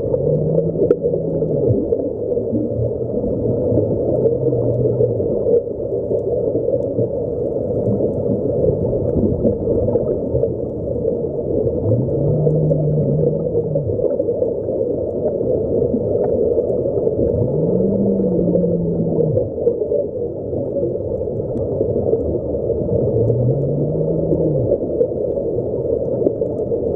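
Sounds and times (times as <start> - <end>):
low hum: 0.0 - 6.3, 6.9 - 14.6, 17.0 - 26.8
underwater bubbling and rushing: 0.0 - 26.9.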